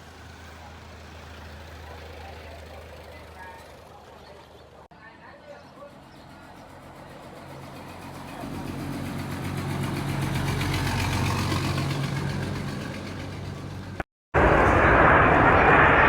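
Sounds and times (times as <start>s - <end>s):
vehicle engine running: 0.0s - 4.9s, 5.8s - 14.0s.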